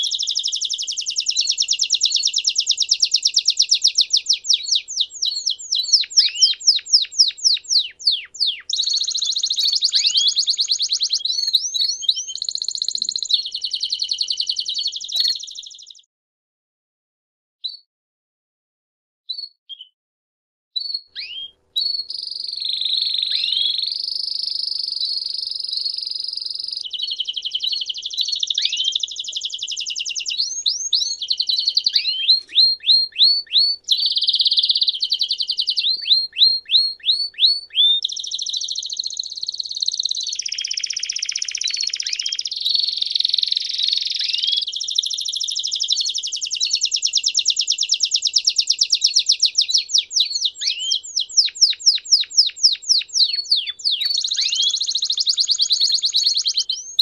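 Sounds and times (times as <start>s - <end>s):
canary singing trills: 0.0s - 16.1s, 20.8s - 57.0s.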